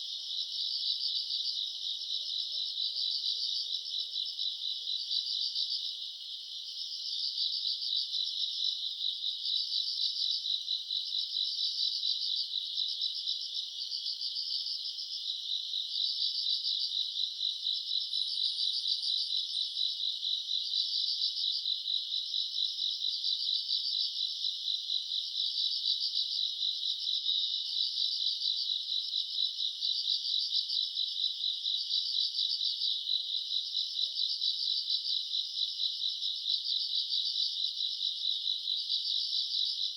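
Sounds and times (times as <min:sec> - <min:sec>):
crickets chirping in trills: 0:00.0 - 0:39.9.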